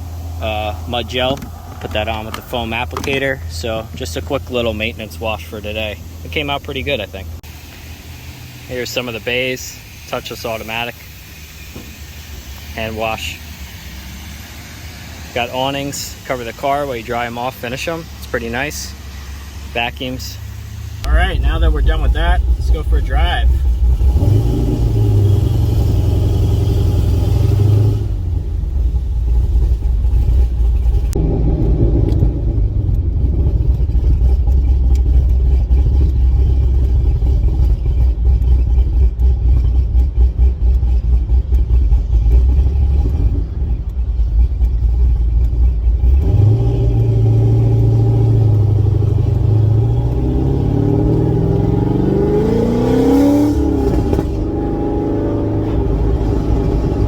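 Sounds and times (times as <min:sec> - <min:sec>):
car engine accelerating: 0:00.0 - 0:57.0
road rumble: 0:00.0 - 0:57.0.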